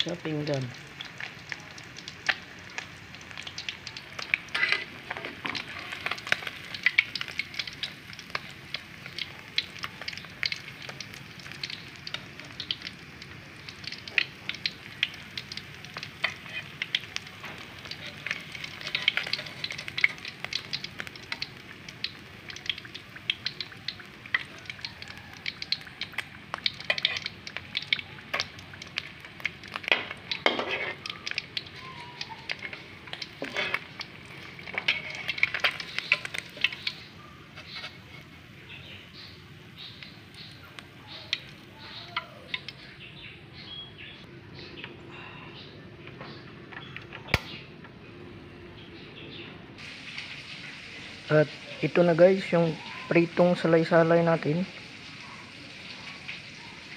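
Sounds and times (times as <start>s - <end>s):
fish sizzling in hot oil: 0.0s - 44.1s, 49.8s - 56.9s
oil crackling and popping: 0.0s - 44.1s, 46.0s - 47.7s, 49.8s - 56.9s.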